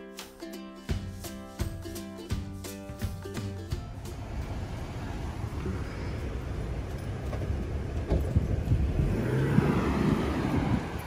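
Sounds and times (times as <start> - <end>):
car engine rumbling: 1.0 - 11.0.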